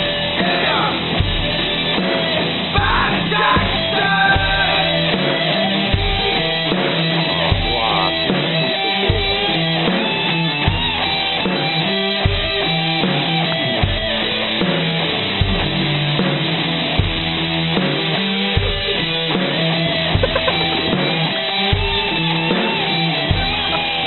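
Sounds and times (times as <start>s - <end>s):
drums: 0.0s - 24.0s
electric guitar: 0.0s - 24.0s
heavy low beat: 0.0s - 24.0s.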